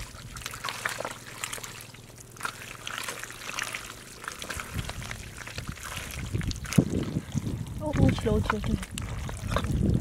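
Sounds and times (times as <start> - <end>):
muddy water trickling and dripping: 0.0 - 10.0
wet mud squelching: 0.0 - 10.0.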